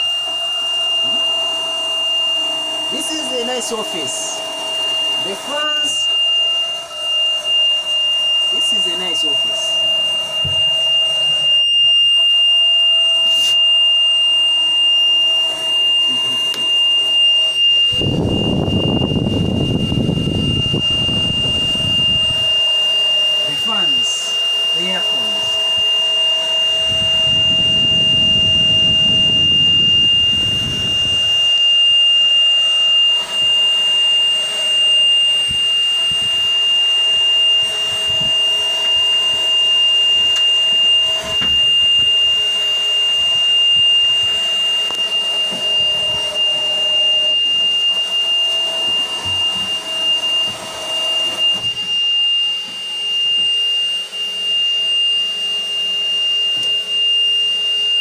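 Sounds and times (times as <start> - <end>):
high-pitched warning buzzer: 0.0 - 58.0.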